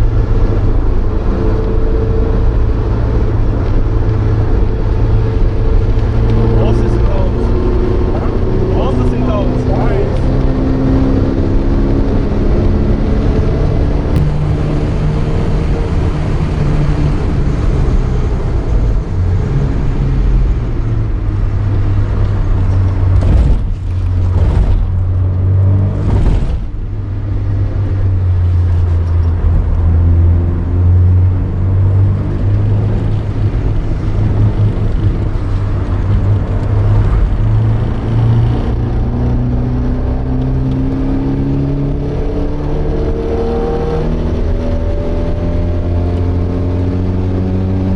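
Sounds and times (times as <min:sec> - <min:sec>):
race car engine from inside cabin: 0:00.0 - 0:47.9.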